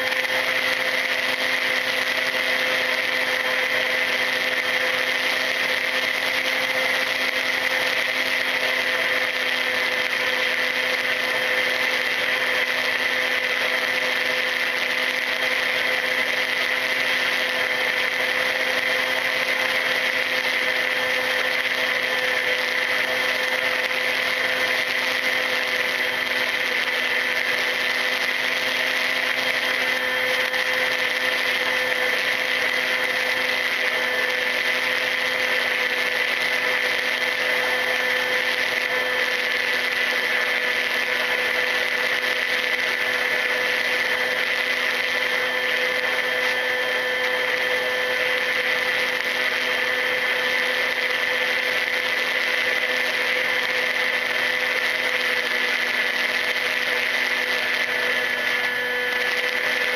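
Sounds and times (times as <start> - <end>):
electric motor and propeller whining: 0.0 - 59.9.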